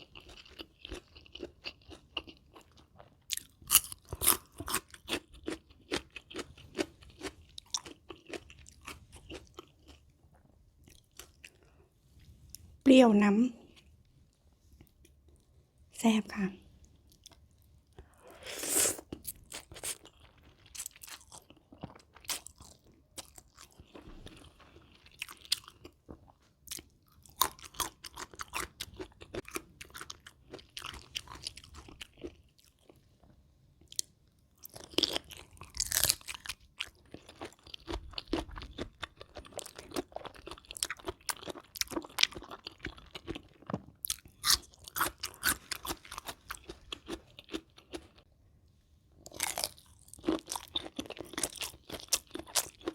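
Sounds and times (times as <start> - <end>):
person crunching and chewing: 0.0 - 11.8, 17.1 - 33.0, 33.8 - 48.2, 49.2 - 52.9.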